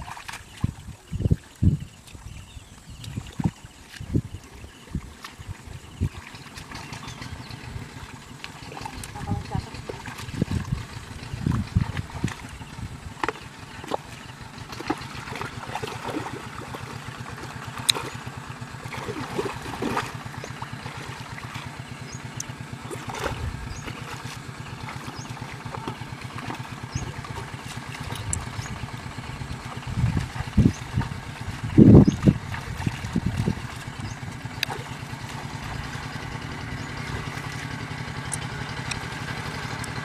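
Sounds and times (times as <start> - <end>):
splashes in muddy water: 0.0 - 40.0
small engine running: 3.6 - 40.0.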